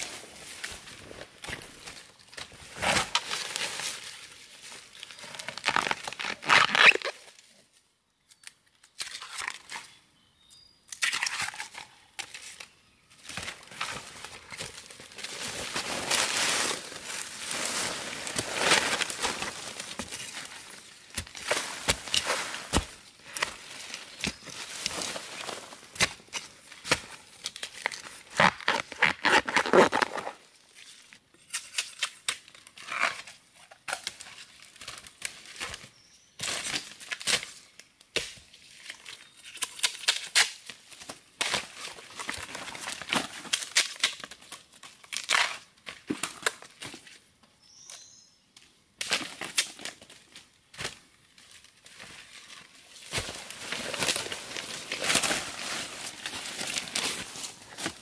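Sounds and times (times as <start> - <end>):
leafy vegetation rustling and snapping: 0.0 - 7.5, 10.9 - 30.5, 31.5 - 47.0, 48.6 - 58.0.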